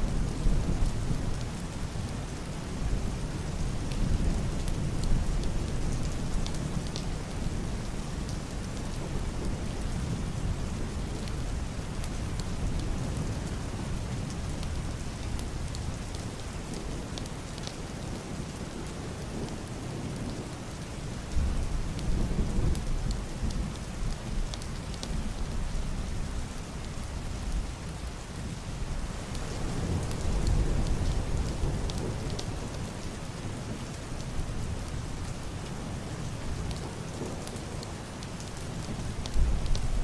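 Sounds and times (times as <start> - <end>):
heavy rain on roof and window: 0.0 - 40.0.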